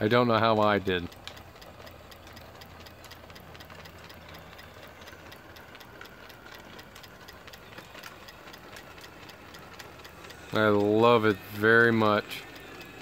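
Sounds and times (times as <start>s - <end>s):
model steam engine ticking: 0.0s - 13.0s.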